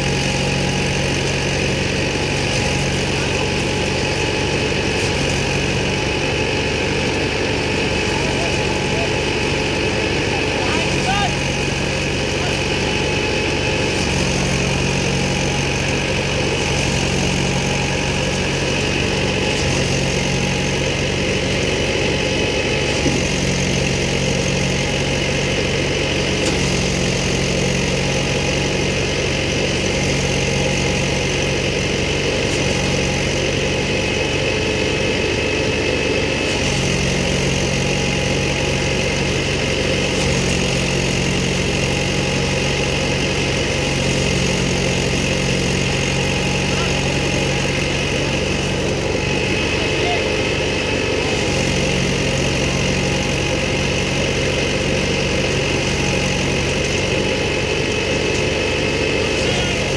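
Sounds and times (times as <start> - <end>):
blower whine: 0.0 - 59.9
thresher engine drone: 0.0 - 59.9.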